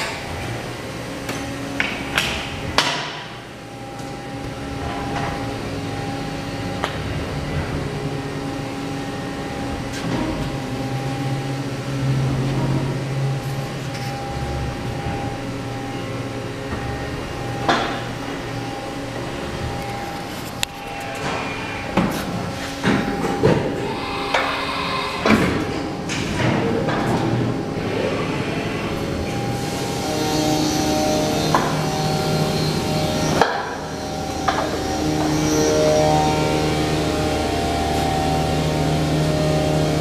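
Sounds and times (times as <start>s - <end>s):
machinery hum: 0.0s - 40.0s.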